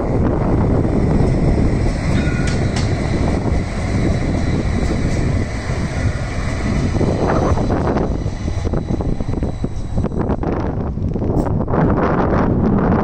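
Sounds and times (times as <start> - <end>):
tram wheels rumbling on rails: 0.0 - 13.0
wind buffeting microphone: 0.0 - 13.0.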